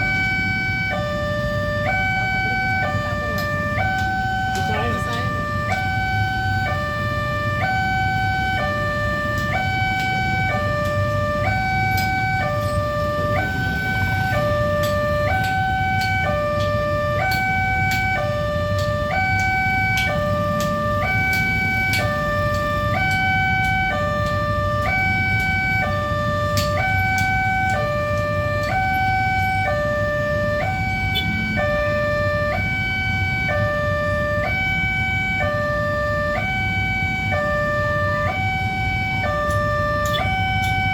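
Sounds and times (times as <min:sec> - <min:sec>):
low rumble of road traffic: 0:00.0 - 0:40.9
two-tone warning siren: 0:00.0 - 0:40.9.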